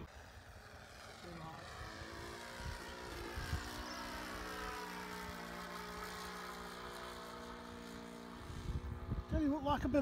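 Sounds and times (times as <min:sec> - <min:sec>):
model aircraft engine running: 0:00.0 - 0:10.0.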